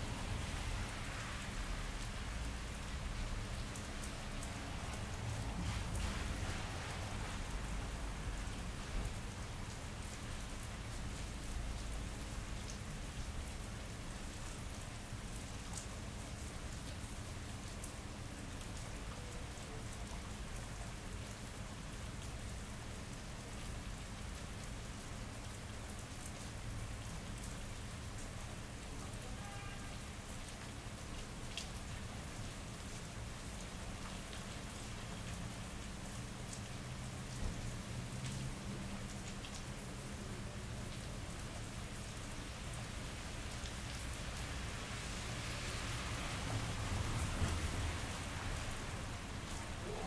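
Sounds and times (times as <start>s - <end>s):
rain on pavement: 0.0s - 50.0s.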